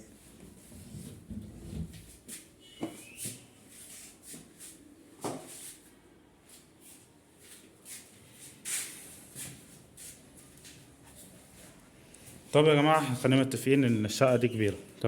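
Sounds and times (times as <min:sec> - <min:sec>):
footsteps in a room: 0:00.0 - 0:15.0.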